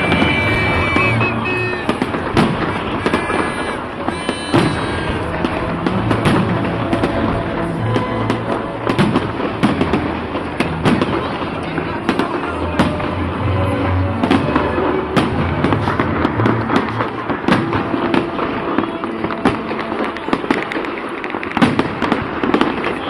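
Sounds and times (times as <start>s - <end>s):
music playing: 0.0s - 22.7s
fireworks bangs and crackles: 0.0s - 23.0s.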